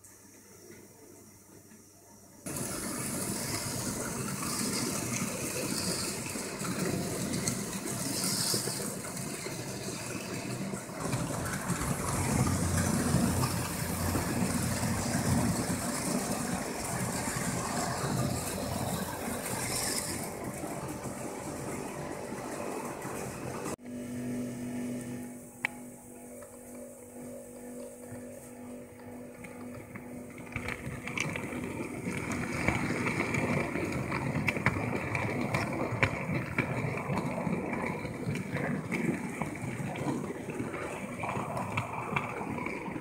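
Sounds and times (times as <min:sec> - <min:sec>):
model train running on track: 0:02.4 - 0:23.8, 0:25.6 - 0:43.0.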